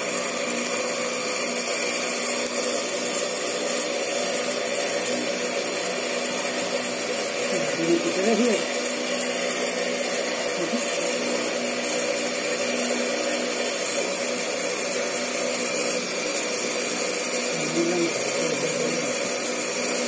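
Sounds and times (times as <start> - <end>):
electric motor whirring: 0.0 - 20.0.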